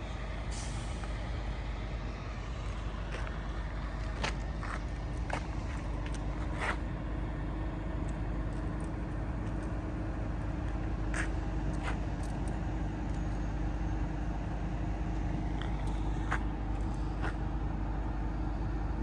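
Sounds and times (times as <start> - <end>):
vehicle rumble and hum: 0.0 - 19.0.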